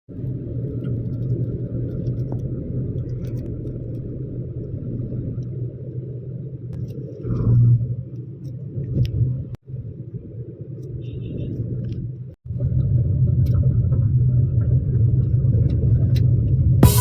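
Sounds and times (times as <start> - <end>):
vehicle rumbling in motion: 0.1 - 16.8.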